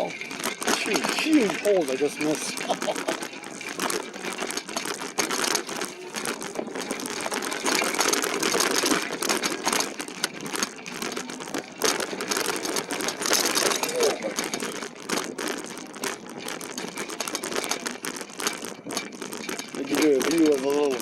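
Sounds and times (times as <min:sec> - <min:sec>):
bike rattling over bumps: 0:00.0 - 0:21.0
tyre noise: 0:00.0 - 0:21.0.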